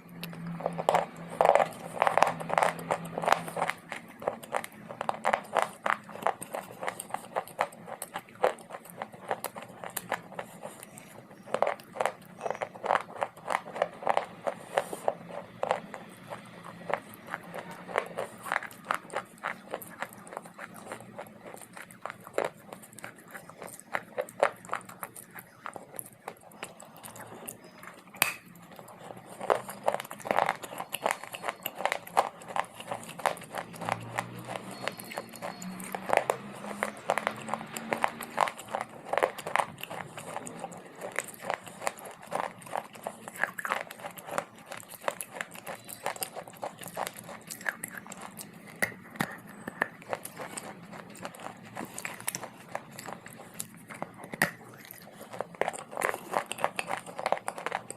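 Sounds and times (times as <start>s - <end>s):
chewing crunchy clay: 0.0s - 57.9s.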